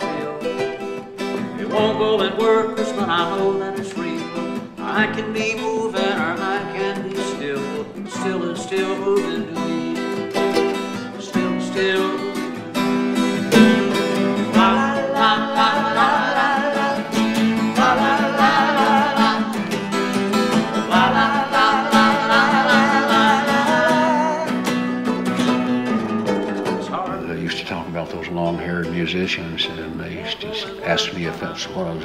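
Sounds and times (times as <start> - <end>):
man singing: 0.0 - 24.9, 26.9 - 32.0
acoustic guitars playing: 0.0 - 32.0.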